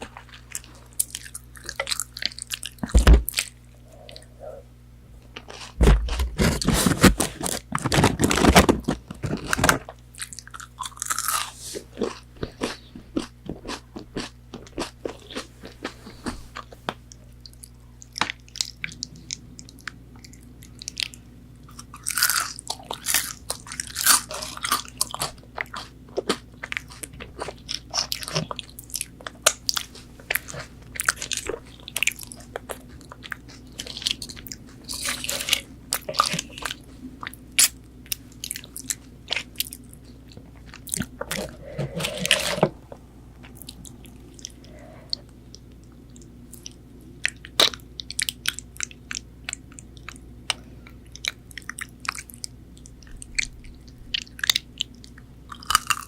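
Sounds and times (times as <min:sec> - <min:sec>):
chewing crispy food: 0:00.0 - 0:04.3, 0:05.2 - 0:56.0.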